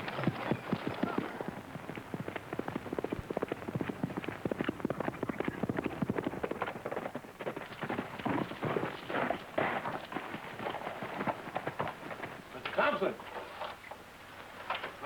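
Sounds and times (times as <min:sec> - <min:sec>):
hoofbeats on hard ground: 0:00.0 - 0:15.0.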